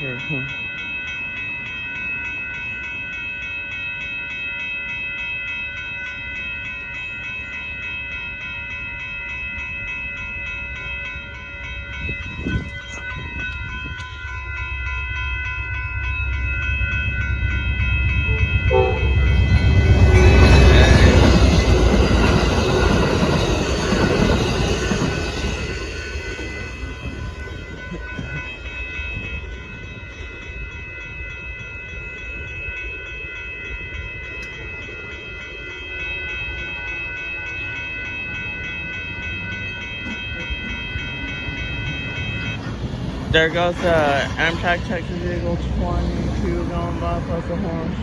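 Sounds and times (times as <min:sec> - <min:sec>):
crossing bell ringing: 0:00.0 - 0:48.0
passenger train passing: 0:00.0 - 0:48.0.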